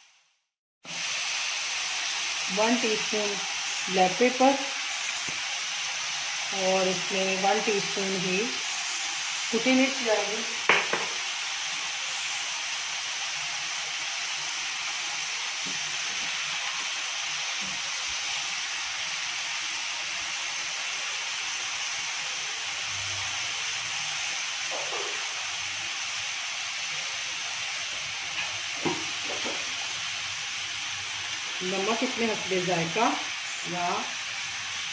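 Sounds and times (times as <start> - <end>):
food sizzling in frying pan: 0.9 - 34.9.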